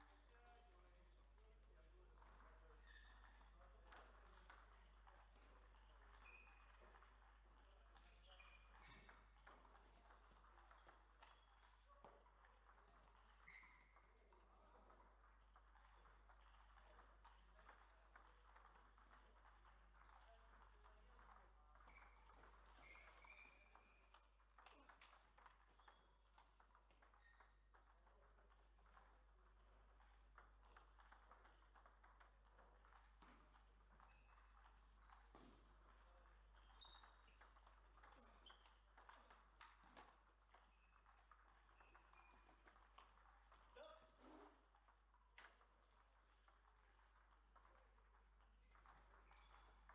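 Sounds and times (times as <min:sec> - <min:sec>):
table tennis balls clicking: 0:03.2 - 0:49.9.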